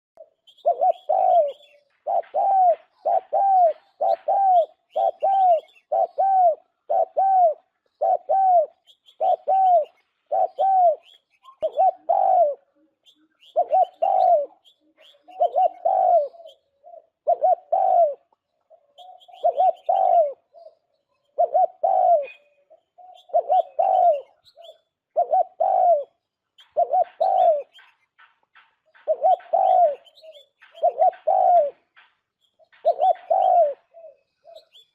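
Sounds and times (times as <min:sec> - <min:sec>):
dove cooing: 0:00.2 - 0:34.9
small birds chirping: 0:00.2 - 0:34.9.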